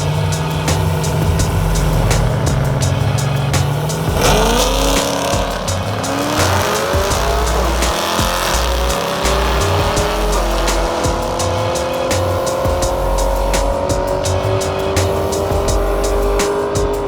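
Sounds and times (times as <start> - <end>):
car engine revving through gears: 0.0 - 17.0.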